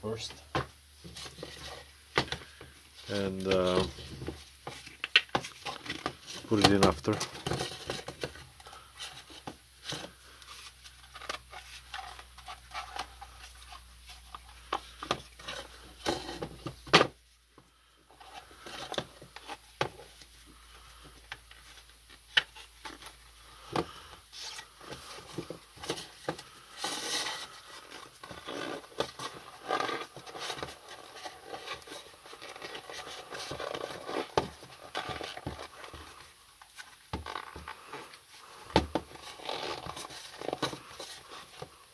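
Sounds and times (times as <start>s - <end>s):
rubber rubbing: 1.0s - 16.9s, 18.1s - 41.9s.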